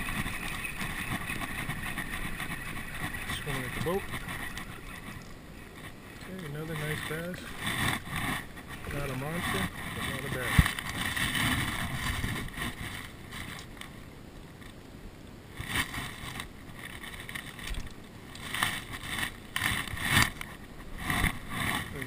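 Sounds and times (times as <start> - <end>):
low background hiss: 0.0 - 22.0.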